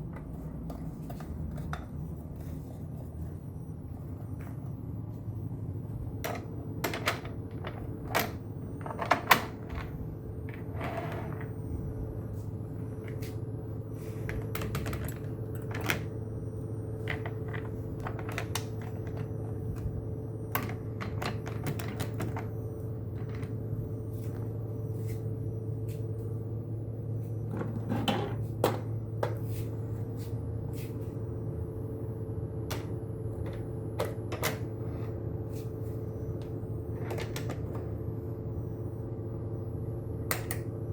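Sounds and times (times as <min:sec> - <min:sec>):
electric hum: 0:00.0 - 0:40.9.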